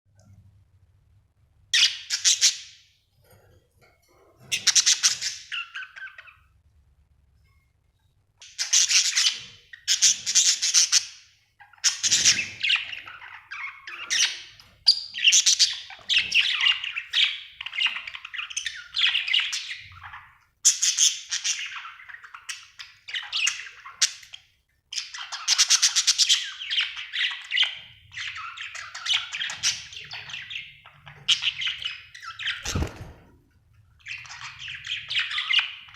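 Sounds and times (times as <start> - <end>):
budgerigar chirping and chattering: 1.8 - 2.8, 4.5 - 6.4, 8.4 - 32.9, 34.0 - 35.9.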